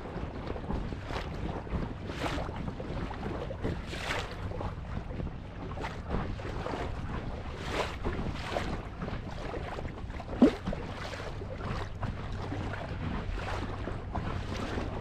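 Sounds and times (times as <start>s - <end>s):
water splashing along boat hull: 0.0s - 15.0s
wind on microphone: 0.0s - 15.0s.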